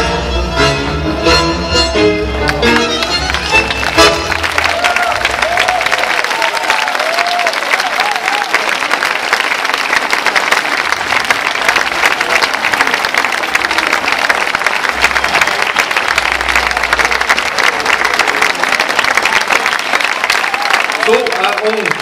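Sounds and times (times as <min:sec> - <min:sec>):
large audience applauding: 0:02.4 - 0:22.0.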